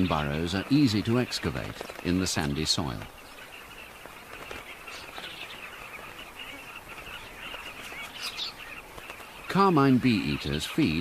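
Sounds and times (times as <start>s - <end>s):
birds chirping in a colony: 0.0s - 11.0s.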